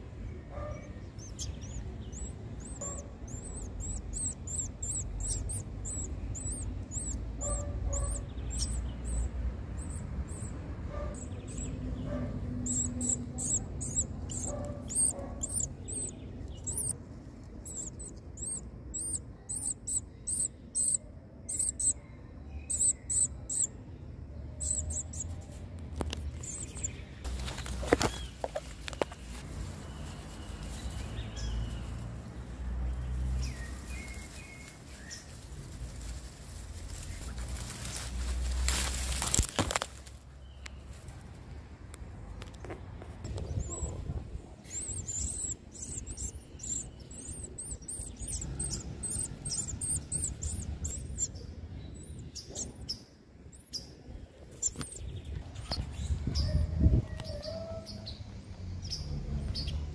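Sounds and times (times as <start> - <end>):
nestling birds chirping: 0.0 - 59.9.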